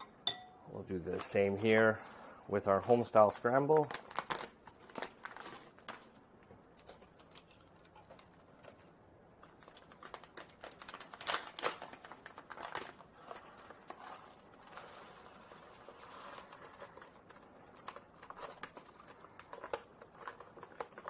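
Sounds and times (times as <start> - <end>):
food pouch crinkling: 3.3 - 21.0.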